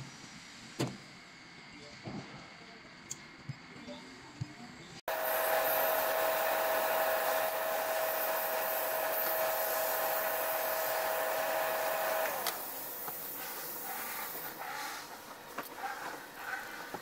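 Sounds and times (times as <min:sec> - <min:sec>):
welding machine whirring whine: 0:00.0 - 0:17.0.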